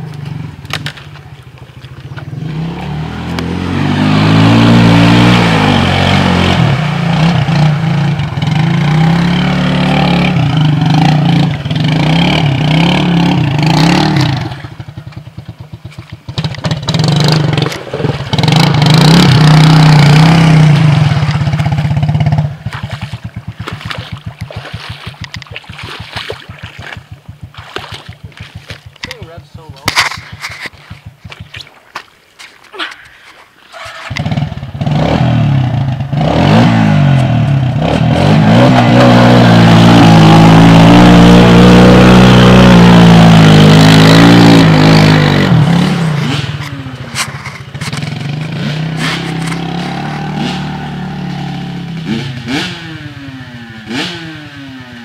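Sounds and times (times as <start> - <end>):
atv engines revving: 0.0 - 31.6, 33.7 - 55.0
vehicles splashing through muddy water: 0.0 - 55.0.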